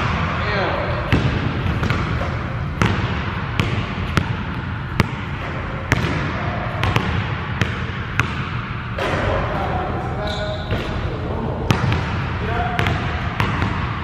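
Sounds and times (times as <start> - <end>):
basketballs bouncing on wooden floor: 0.0 - 9.4, 11.7 - 14.0.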